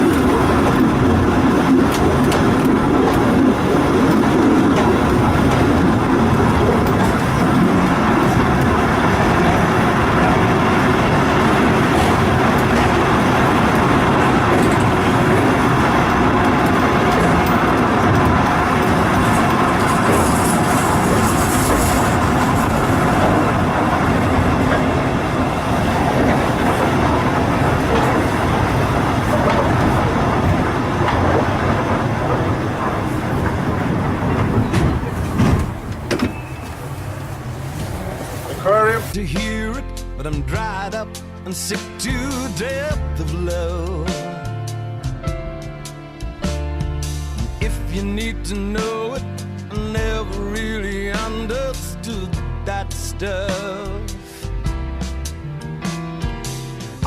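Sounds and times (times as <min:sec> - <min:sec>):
wheels rumbling on rails: 0:00.0 - 0:44.5, 0:47.0 - 0:54.4.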